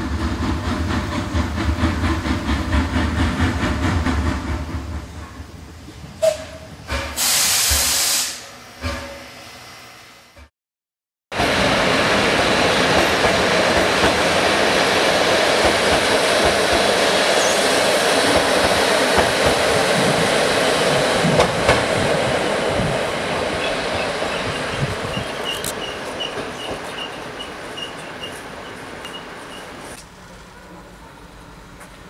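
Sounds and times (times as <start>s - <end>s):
train coaches rolling past: 0.0s - 10.4s, 11.4s - 32.0s.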